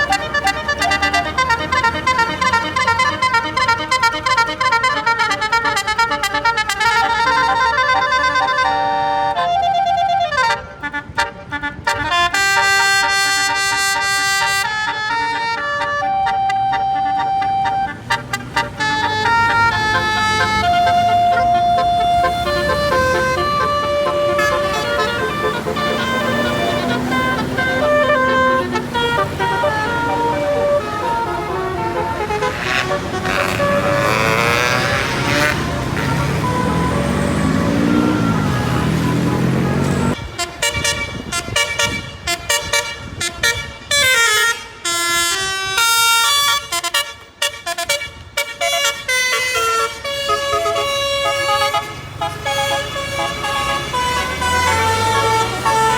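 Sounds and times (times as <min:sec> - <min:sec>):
musical bus horn playing a tune: 0:00.0 - 0:55.9.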